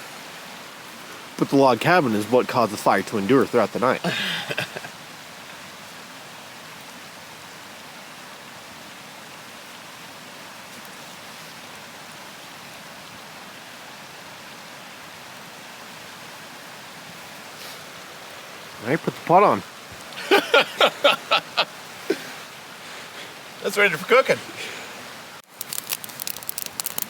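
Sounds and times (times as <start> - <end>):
brook water rushing: 0.0 - 27.0.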